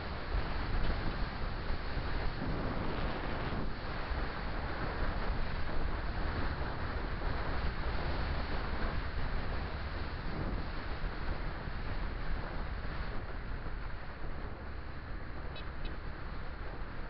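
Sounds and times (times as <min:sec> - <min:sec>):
motorcycle and road noise: 0:00.0 - 0:17.0
wind buffeting microphone: 0:00.0 - 0:17.0.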